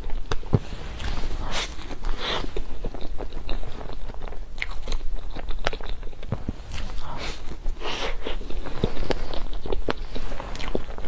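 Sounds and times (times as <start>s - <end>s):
wet chewing mouth sounds: 0.0s - 11.0s.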